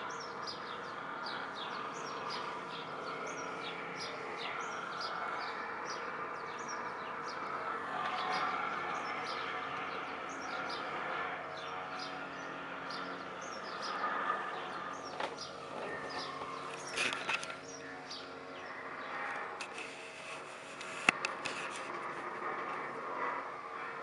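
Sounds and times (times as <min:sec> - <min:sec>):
small birds chirping: 0:00.0 - 0:22.1.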